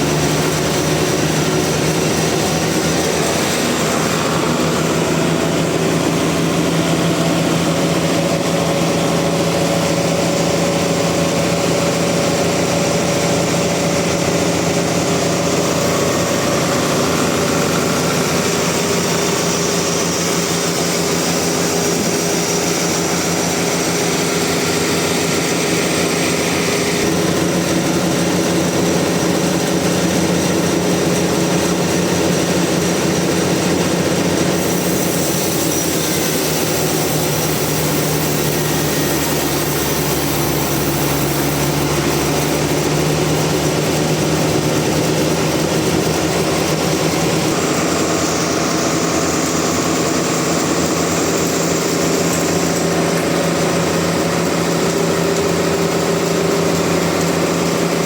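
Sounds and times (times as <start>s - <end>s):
sawmill machinery engine hum: 0.0s - 58.0s.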